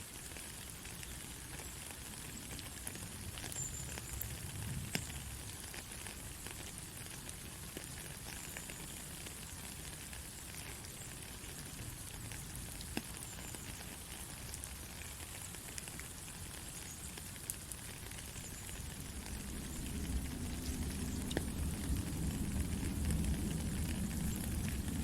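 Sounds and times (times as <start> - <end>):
light rain falling: 0.0 - 25.0
raindrops ticking: 0.0 - 25.0.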